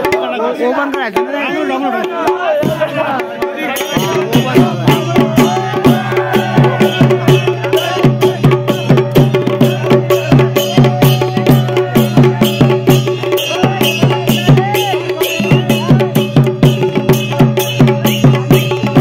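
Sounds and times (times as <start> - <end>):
fast hand-drum beat: 0.0 - 19.0.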